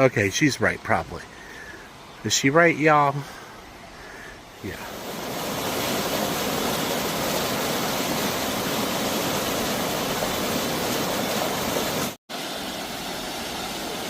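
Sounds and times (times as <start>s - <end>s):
waterfall rushing: 1.2s - 14.0s.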